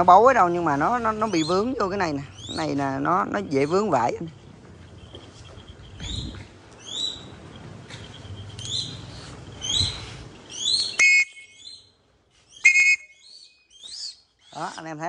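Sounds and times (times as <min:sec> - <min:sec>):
bird chirping calls: 0:00.0 - 0:15.0
sharp bird calls: 0:00.0 - 0:15.0.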